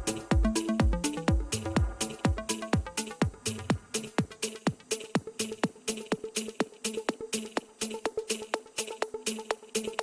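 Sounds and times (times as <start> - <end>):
electronic house music: 0.0 - 10.0.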